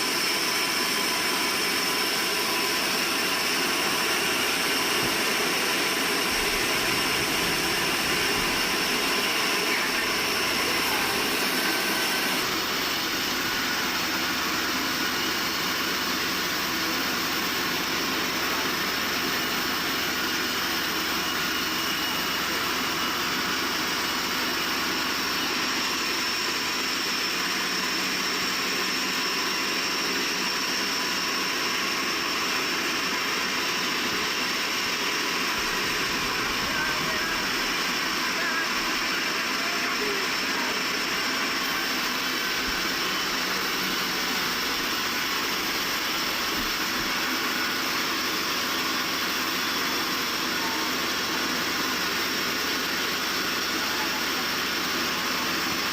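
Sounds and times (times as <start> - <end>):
faint high whine: 0.0 - 55.9
sawmill machinery roar: 0.0 - 55.9.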